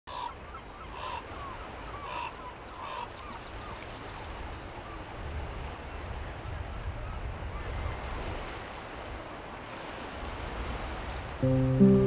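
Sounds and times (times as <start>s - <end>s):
small waves breaking: 0.4s - 12.0s.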